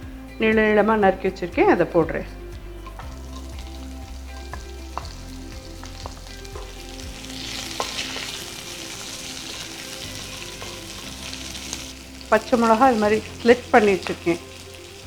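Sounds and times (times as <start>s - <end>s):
onion sizzling in a pan: 2.8s - 15.0s.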